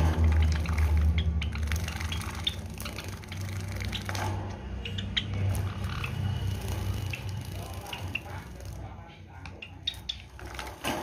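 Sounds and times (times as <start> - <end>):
birds splashing in water: 0.0 - 11.0.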